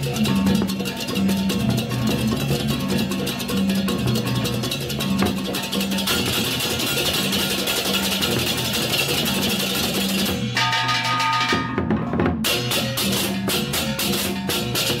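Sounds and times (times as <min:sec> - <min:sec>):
music with drum beat: 0:00.0 - 0:15.0.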